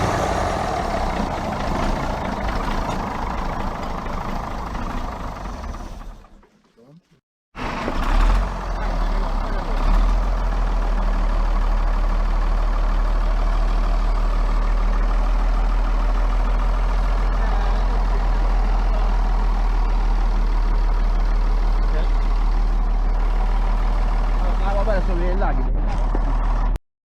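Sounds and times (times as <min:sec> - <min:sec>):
diesel truck engine idling: 0:00.0 - 0:06.4, 0:07.6 - 0:26.7.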